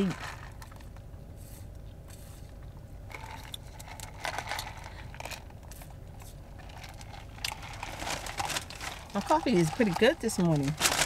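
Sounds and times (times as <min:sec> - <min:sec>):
plastic cup crinkling: 0:00.0 - 0:01.0, 0:02.5 - 0:11.0
low steady hum: 0:00.0 - 0:11.0.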